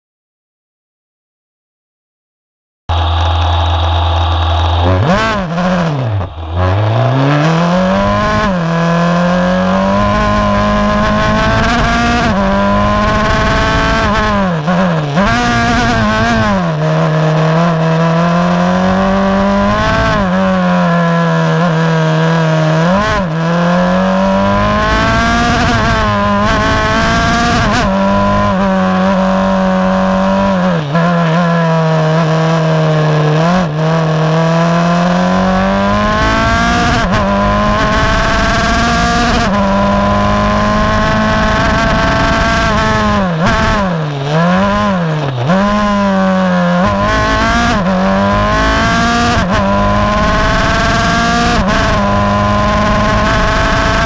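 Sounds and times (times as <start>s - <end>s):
race car engine at full throttle: 2.9s - 54.0s.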